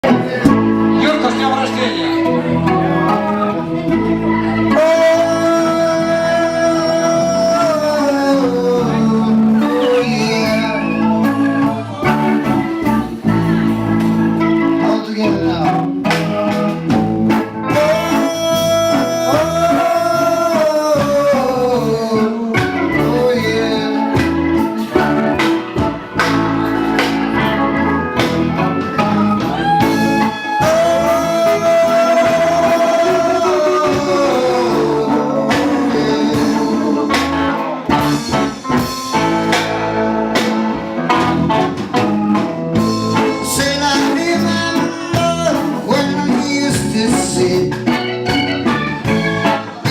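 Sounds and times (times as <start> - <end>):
live reggae band playing: 0.0 - 49.9
sliding lead melody: 0.0 - 49.9.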